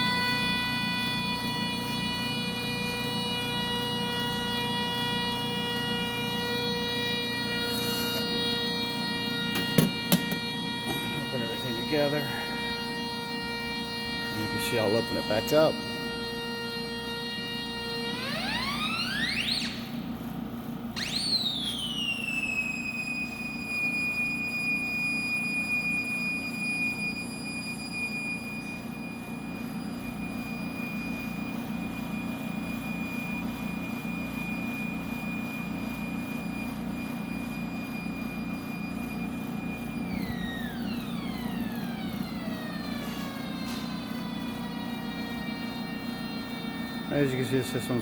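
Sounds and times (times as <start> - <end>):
high whistle tone: 0.0 - 20.0, 21.0 - 48.0.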